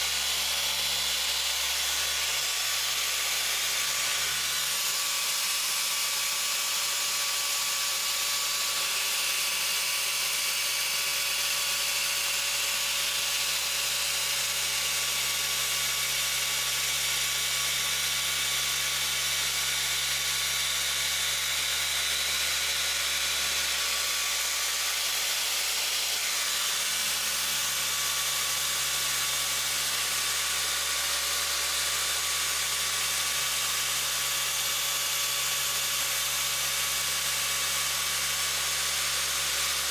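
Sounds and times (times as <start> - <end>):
rotary polisher running: 0.0 - 39.9.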